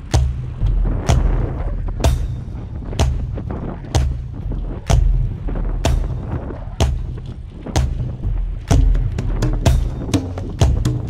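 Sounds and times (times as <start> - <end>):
heavy drum beat: 0.0 - 11.0.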